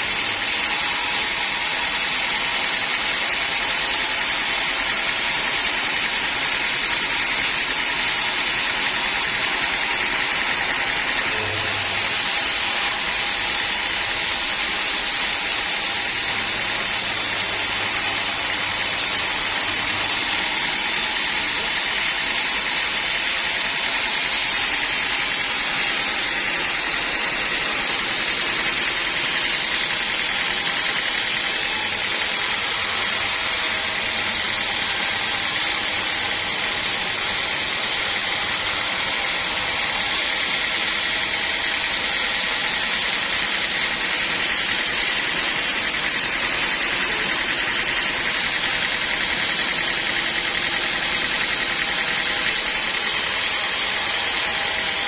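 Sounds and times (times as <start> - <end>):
sawmill saw hissing: 0.0 - 55.0.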